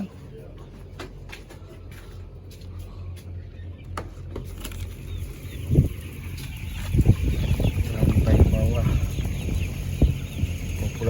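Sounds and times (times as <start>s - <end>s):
chickens clucking and chirping: 0.0s - 11.0s
steady low hum: 0.0s - 11.0s.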